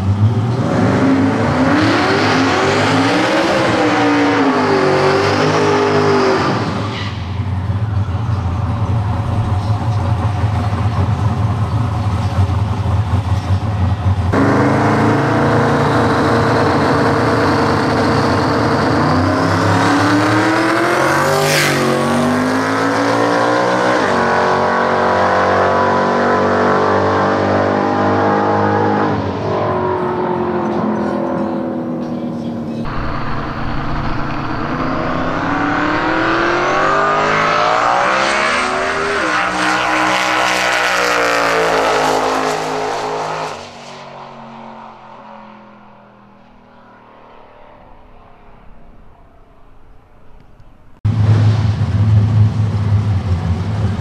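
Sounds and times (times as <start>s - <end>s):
drag car engine revving: 0.0s - 46.6s.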